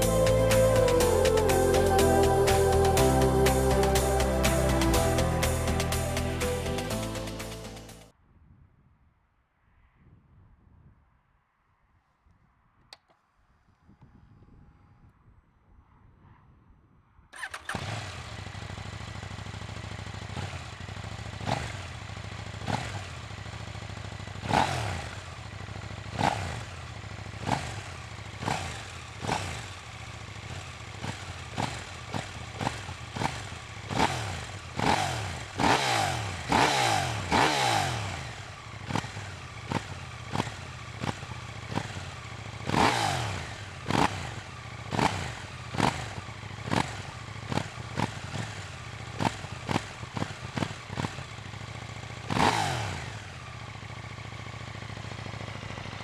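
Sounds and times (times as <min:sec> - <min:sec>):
motorcycle engine revving: 0:00.0 - 0:08.1, 0:17.4 - 0:56.0.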